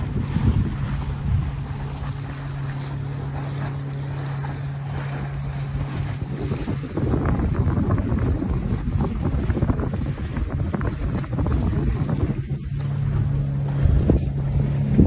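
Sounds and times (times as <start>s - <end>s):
boat engine hum: 0.0s - 15.0s
water splashing against barge: 0.0s - 15.0s
wind buffeting microphone: 0.0s - 15.0s.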